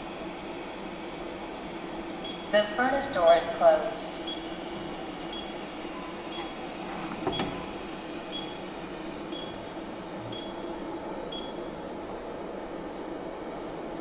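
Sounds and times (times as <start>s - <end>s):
furnace machine hum: 0.0s - 14.0s.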